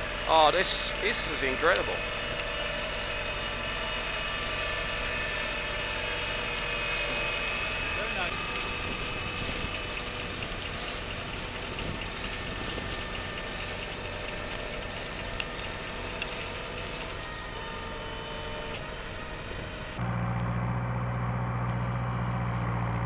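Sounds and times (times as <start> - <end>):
harvester machinery droning: 0.0 - 23.0.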